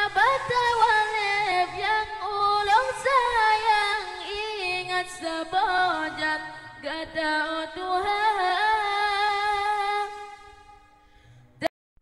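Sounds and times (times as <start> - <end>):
boy singing into a microphone: 0.0 - 10.7.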